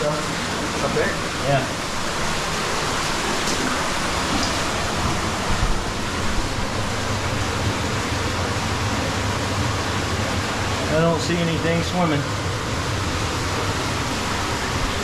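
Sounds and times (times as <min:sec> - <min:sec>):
water rushing in a cave: 0:00.0 - 0:15.0.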